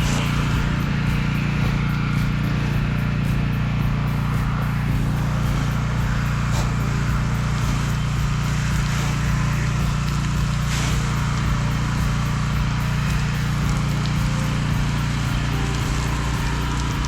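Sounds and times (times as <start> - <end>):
pressure washer engine droning: 0.0 - 17.0
spray gun hissing: 0.0 - 17.0.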